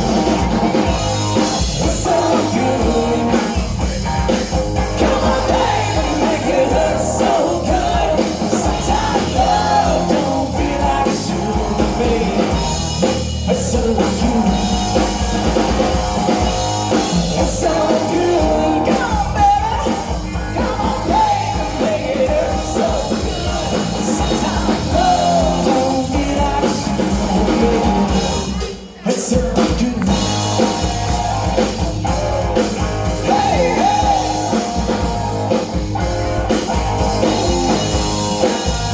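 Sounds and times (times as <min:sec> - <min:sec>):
rock band with singer: 0:00.0 - 0:38.9.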